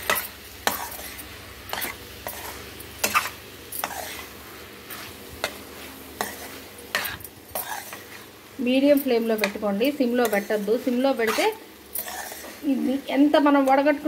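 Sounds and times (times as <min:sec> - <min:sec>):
light sizzle of frying: 0:00.0 - 0:14.0
metal spatula scraping a pan: 0:00.0 - 0:14.0.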